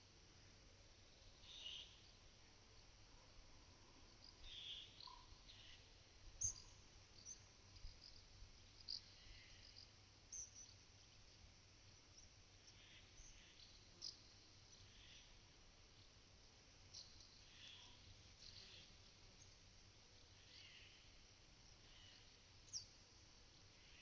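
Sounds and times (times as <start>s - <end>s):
small birds chirping: 4.0s - 16.2s, 16.8s - 24.0s.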